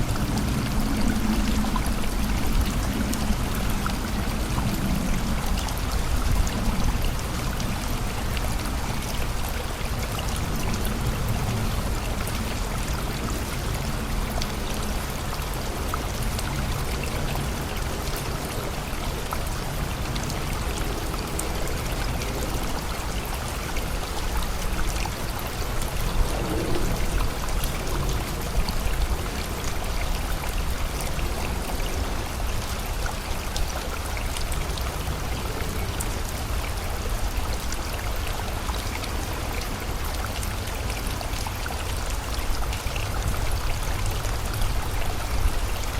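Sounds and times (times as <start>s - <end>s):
flowing river: 0.0s - 45.9s
steady rain: 0.0s - 45.9s.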